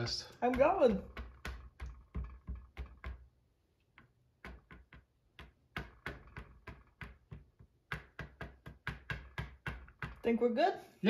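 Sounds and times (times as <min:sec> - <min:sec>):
paint bottle tip tapping canvas: 0:00.3 - 0:10.3.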